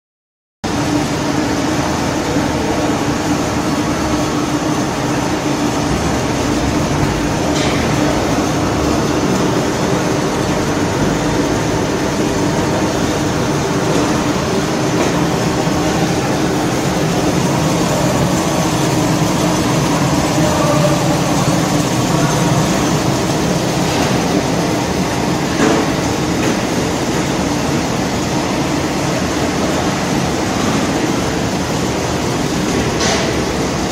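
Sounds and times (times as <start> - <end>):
machinery droning: 0.7 - 33.9.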